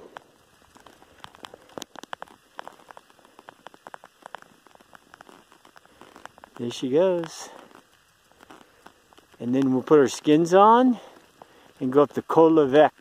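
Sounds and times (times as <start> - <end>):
faint hiss: 0.0 - 13.0
light crackling clicks: 0.0 - 13.0.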